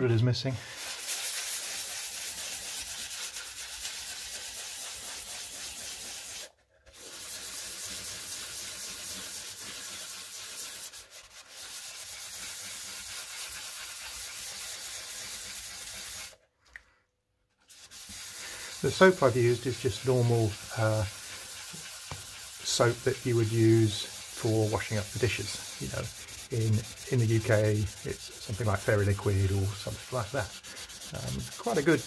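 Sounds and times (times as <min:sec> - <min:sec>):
wet sandpaper rasping: 0:00.6 - 0:16.4, 0:17.6 - 0:32.0.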